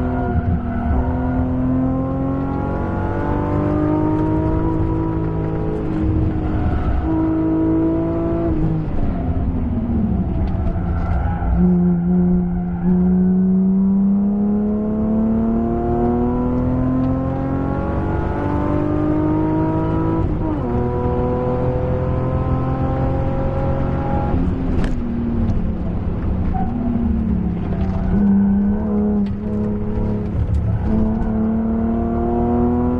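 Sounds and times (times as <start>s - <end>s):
car engine under hard driving: 0.0s - 32.9s.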